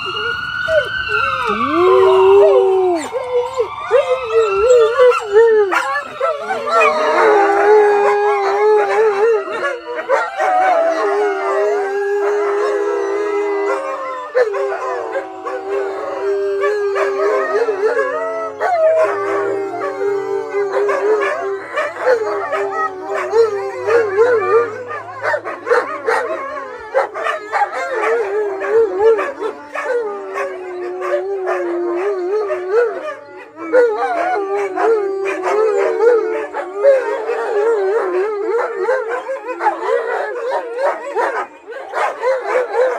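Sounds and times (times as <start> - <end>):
siren: 0.0 - 42.9
wolfdogs howling together: 0.0 - 42.9.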